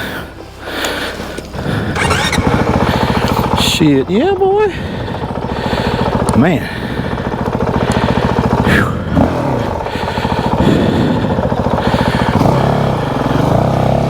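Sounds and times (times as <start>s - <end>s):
motorcycle engine running: 1.6s - 14.0s.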